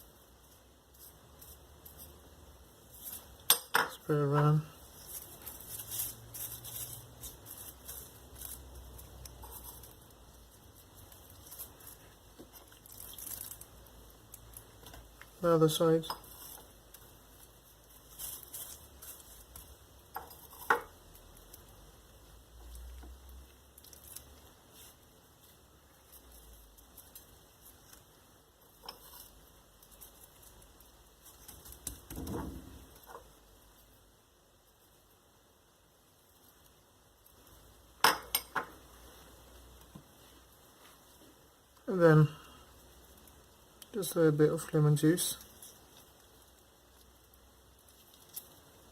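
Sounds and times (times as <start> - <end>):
herbs rustling on steak: 0.0 - 38.0, 38.7 - 48.9.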